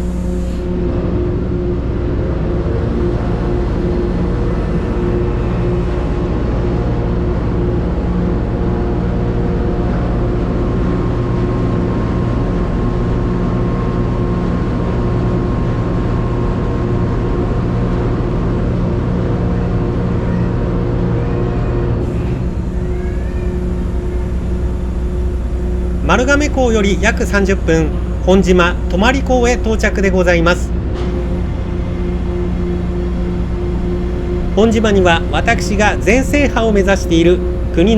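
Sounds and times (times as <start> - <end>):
ferry engine humming: 0.0 - 37.9.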